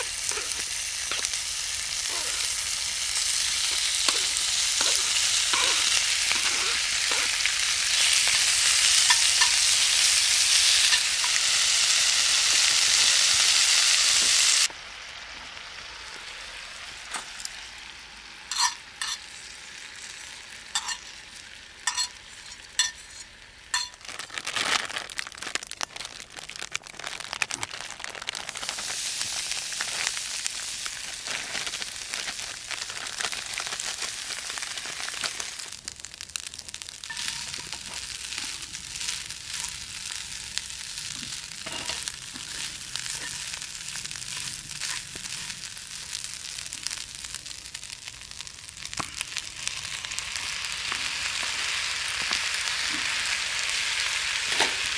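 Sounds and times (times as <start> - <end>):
small crackles: 0.0 - 11.4, 21.9 - 54.9
food sizzling in a pan: 0.0 - 54.9.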